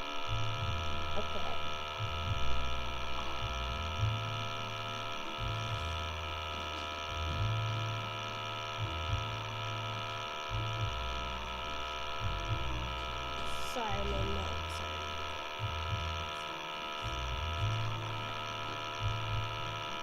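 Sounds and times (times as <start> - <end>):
electrical hum and whine: 0.0 - 20.0
low buzz: 0.0 - 20.0.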